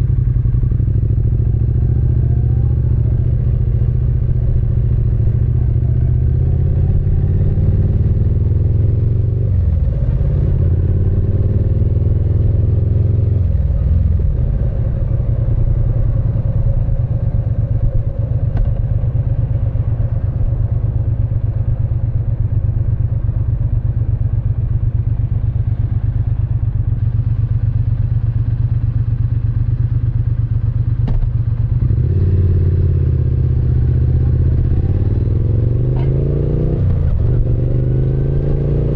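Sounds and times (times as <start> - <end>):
motorcycle engine revving: 0.6 - 38.9.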